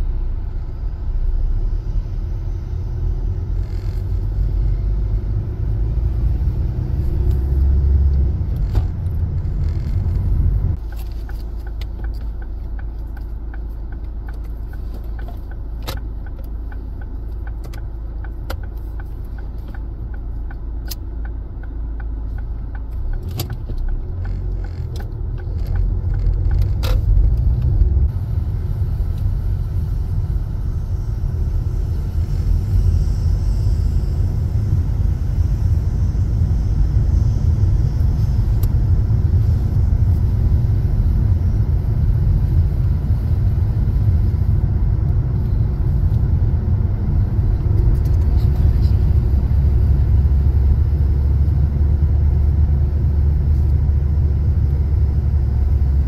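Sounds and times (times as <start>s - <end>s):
car engine and tyres rumble: 0.0s - 56.0s.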